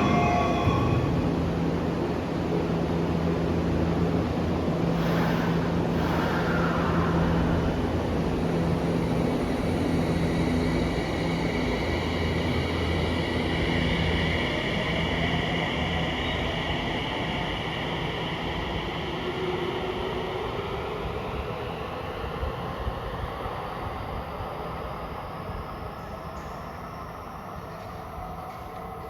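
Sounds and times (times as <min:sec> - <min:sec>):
electric train running rumble: 0:00.0 - 0:29.0.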